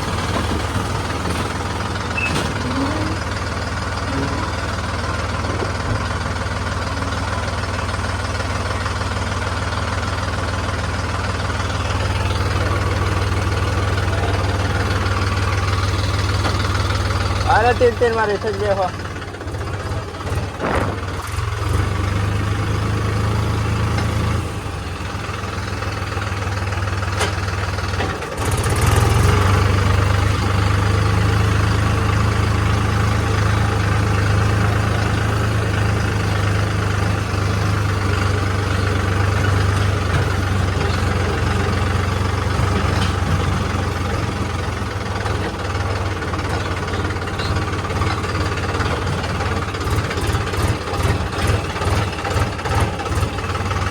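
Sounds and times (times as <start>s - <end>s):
heavy machinery diesel engine hum: 0.0s - 53.9s.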